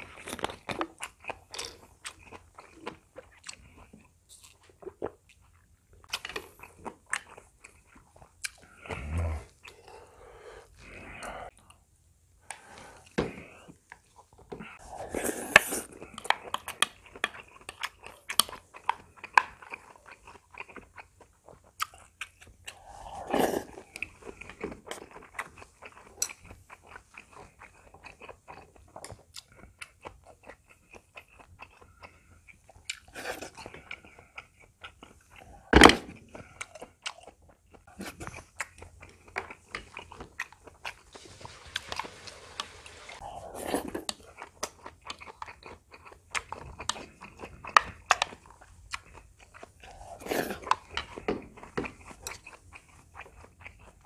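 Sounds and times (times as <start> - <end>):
chewing and crunching: 0.0 - 11.8, 12.5 - 42.3, 43.0 - 54.0.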